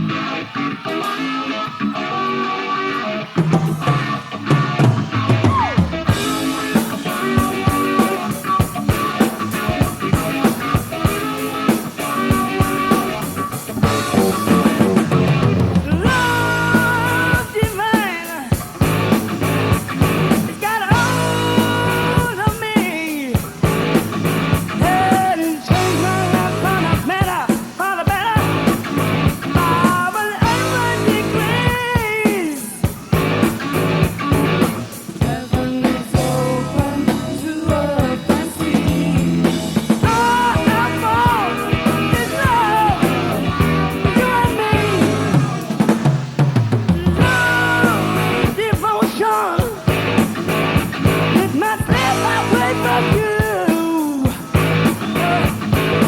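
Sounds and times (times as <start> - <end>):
bass guitar: 0.0 - 17.9, 18.6 - 22.8, 23.4 - 27.5, 28.1 - 32.2, 32.9 - 48.9, 49.6 - 56.0
bending lead guitar melody: 0.0 - 56.0
electric guitar: 0.0 - 56.0
drum beat: 3.4 - 56.0.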